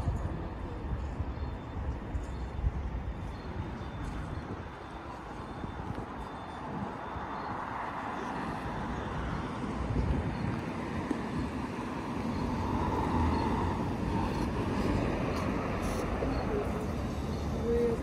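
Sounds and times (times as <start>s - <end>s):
street traffic passing: 0.0s - 18.0s.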